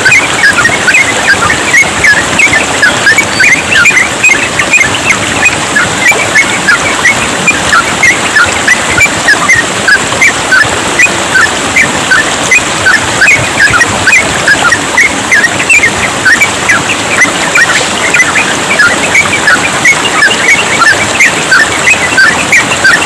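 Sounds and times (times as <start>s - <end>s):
birds singing bubbly notes: 0.0s - 23.0s
trickling water: 0.0s - 23.0s.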